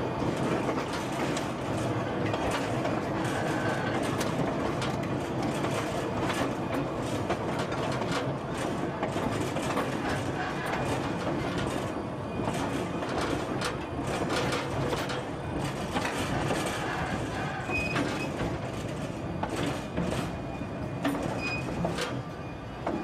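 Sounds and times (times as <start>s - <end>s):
railcar wheels rumbling: 0.0s - 23.0s
wheel clicks and knocks on rail: 0.2s - 20.4s, 21.0s - 23.0s.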